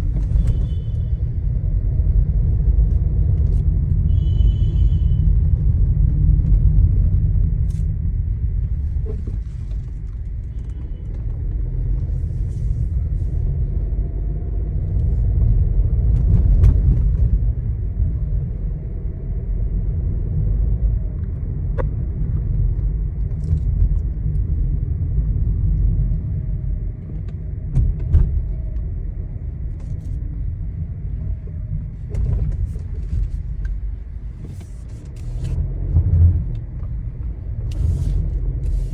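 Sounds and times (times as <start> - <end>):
road rumble inside car cabin: 0.0 - 38.9.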